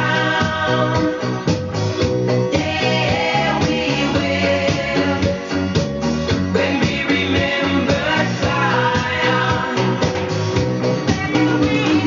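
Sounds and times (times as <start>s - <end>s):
song with singing and guitar: 0.0s - 12.0s.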